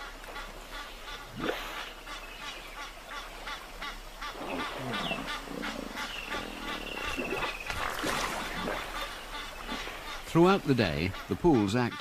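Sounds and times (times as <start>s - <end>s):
geese honking: 0.0s - 12.0s
lower wavering calls: 1.0s - 12.0s.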